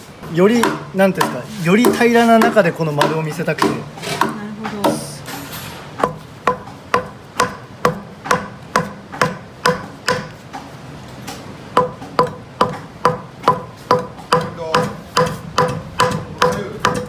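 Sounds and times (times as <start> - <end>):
adze chopping wood: 0.5 - 5.1, 6.0 - 10.7, 11.8 - 17.0.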